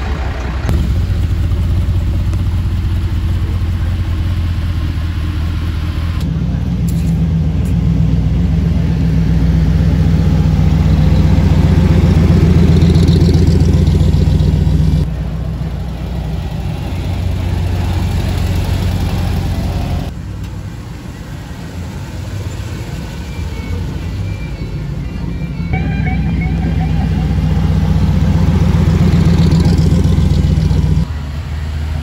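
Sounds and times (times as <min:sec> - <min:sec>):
quieter engine running: 0:00.0 - 0:31.4
car engine rumble: 0:00.0 - 0:32.0.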